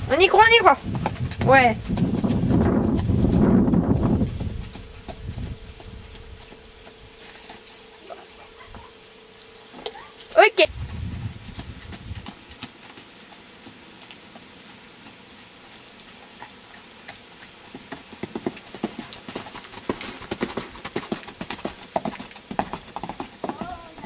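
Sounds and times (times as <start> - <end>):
horse hoofbeats on sand: 0.0 - 8.2, 10.7 - 24.0.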